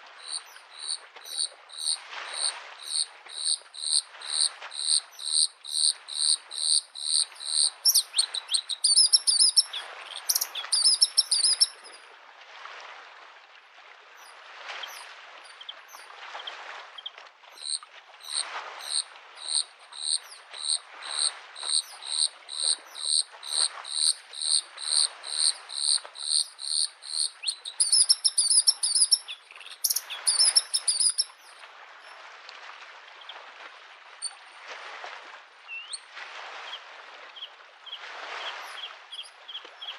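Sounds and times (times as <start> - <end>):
lake waves lapping: 0.0 - 39.9.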